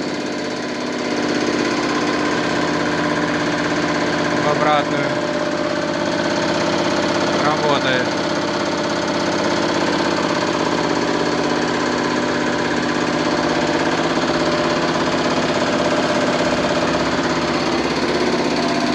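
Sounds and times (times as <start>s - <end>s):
hydraulic pump humming: 0.0s - 18.9s.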